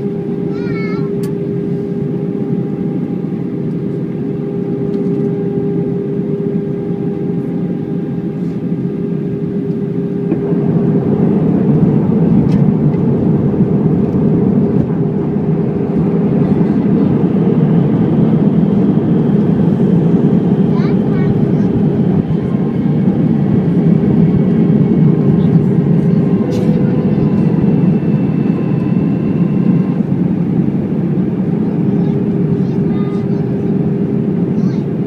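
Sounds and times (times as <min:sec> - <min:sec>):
jet engine hum in cabin: 0:00.0 - 0:35.0.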